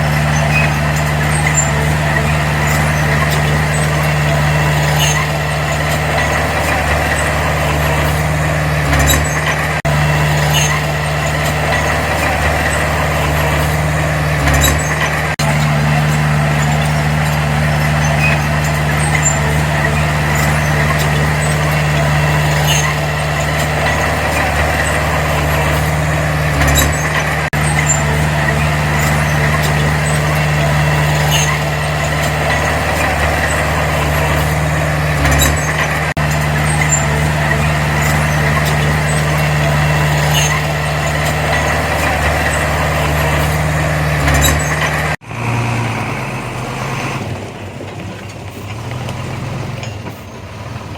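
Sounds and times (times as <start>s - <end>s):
diesel engine running: 0.0s - 50.9s
quieter engine: 0.0s - 50.9s.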